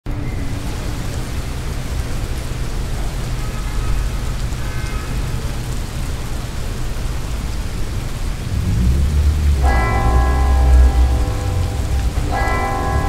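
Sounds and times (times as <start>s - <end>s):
heavy rain falling: 0.1s - 13.0s.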